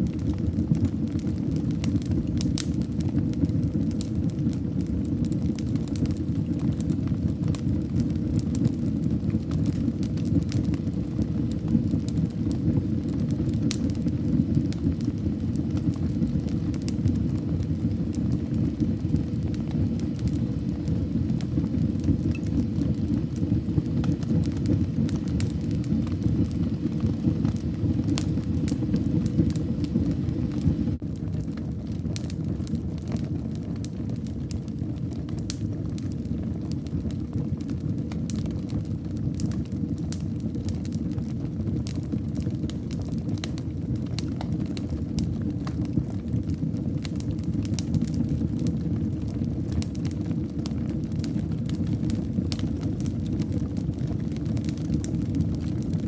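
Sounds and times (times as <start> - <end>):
fire crackling and popping: 0.0 - 56.0
fire rumbling in fireplace: 0.0 - 56.0.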